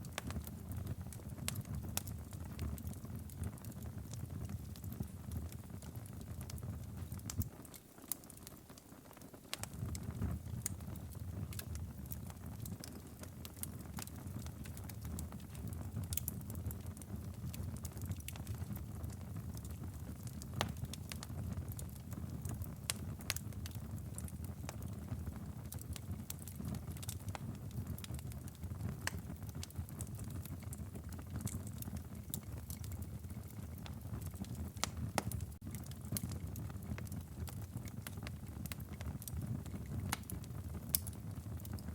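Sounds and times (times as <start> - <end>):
wood fire crackling and popping: 0.0 - 41.9
low flame rumble: 0.1 - 7.5, 9.6 - 41.9.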